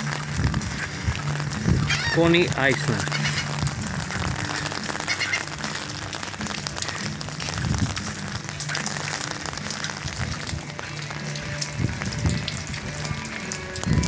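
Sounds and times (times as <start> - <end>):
music over outdoor loudspeakers: 0.0 - 14.0.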